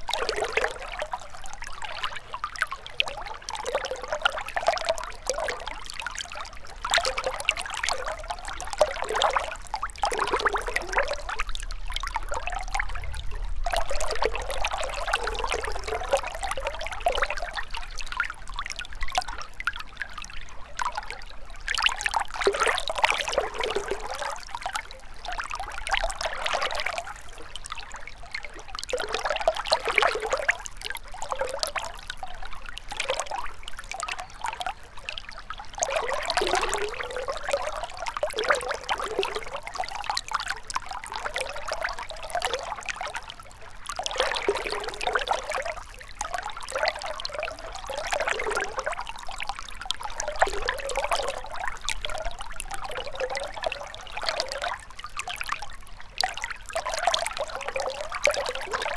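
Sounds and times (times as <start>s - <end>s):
river water babbling: 0.0s - 58.9s.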